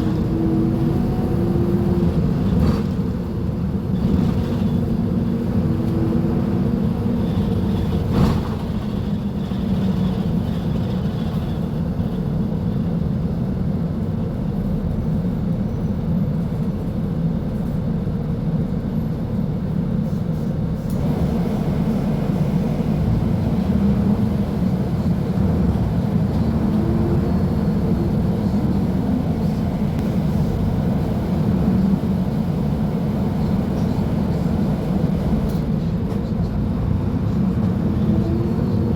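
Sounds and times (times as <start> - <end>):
bus diesel engine rumbling: 0.0 - 38.9.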